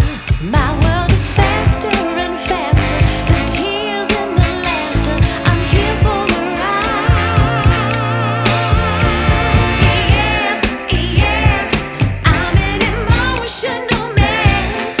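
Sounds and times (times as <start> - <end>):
background music with beat and bass: 0.0 - 15.0
person singing: 0.0 - 15.0.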